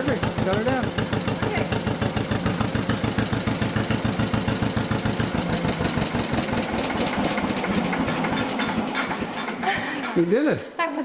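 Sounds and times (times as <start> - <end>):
tractor engine idling: 0.0 - 10.5.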